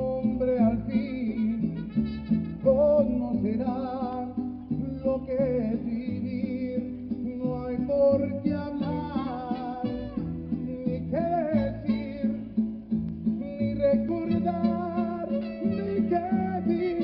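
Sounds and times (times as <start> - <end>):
man singing with vibrato: 0.0 - 17.0
strummed guitars: 0.0 - 17.0.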